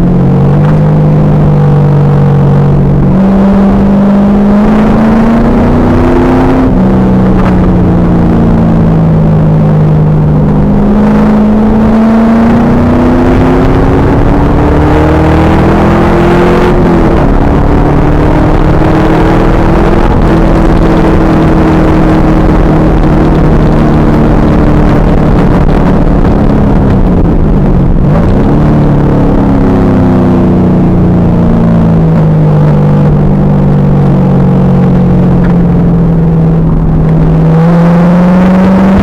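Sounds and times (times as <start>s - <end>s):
car engine revving hard: 0.0s - 39.0s.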